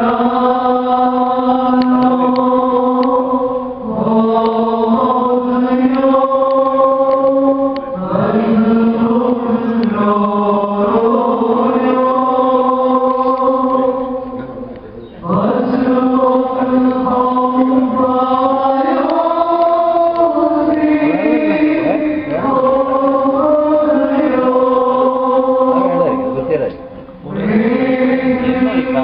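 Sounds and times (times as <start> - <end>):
men chanting a hymn: 0.0 - 29.0.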